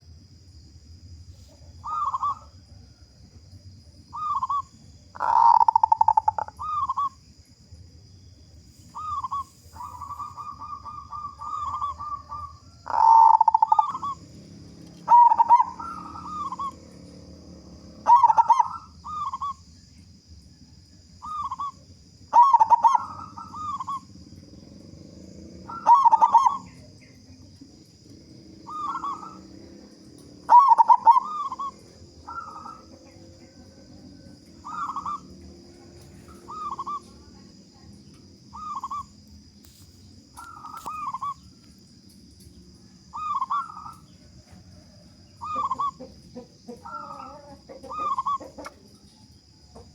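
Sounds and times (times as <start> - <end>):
dove cooing: 1.5 - 3.1, 4.1 - 7.3, 8.8 - 19.7, 21.2 - 39.2, 40.3 - 41.6, 43.0 - 49.9.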